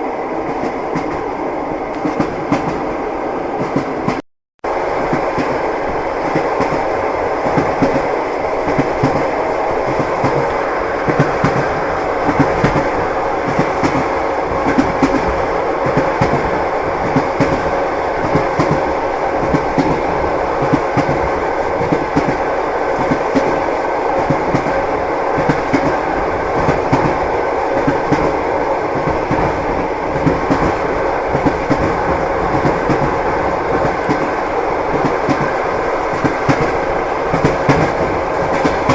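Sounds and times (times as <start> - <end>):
train wheels clattering: 5.0 - 38.9.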